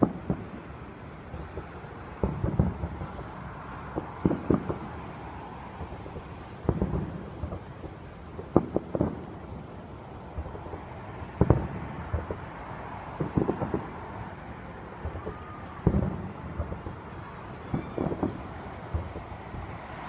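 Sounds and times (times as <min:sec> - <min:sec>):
distant fireworks booming: 0:00.0 - 0:20.0
road traffic noise: 0:00.0 - 0:20.0.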